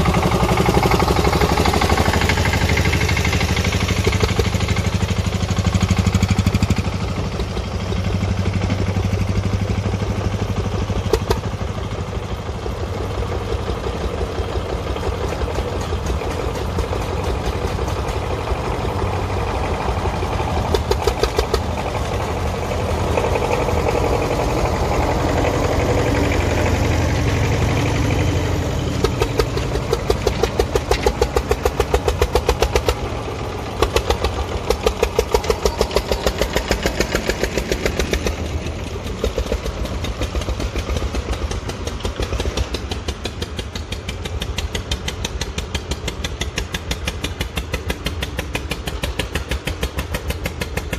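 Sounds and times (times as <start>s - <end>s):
tractor engine chugging: 0.0s - 50.9s.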